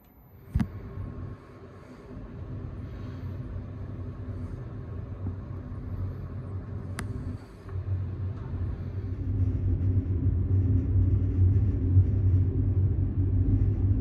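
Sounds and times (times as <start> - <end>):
train rumbling: 0.3 - 14.0.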